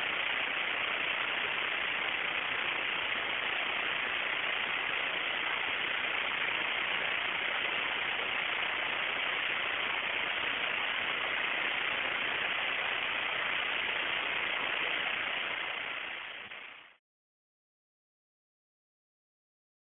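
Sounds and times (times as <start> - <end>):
steady static hiss: 0.0 - 17.0.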